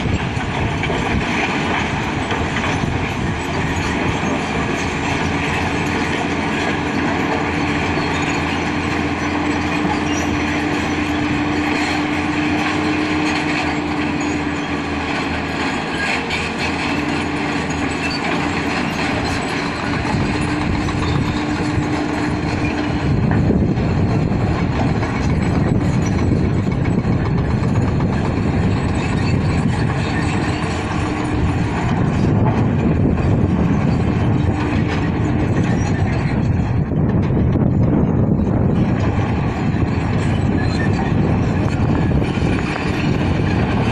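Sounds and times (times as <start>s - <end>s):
diesel earthmoving machine engine: 0.0s - 43.9s.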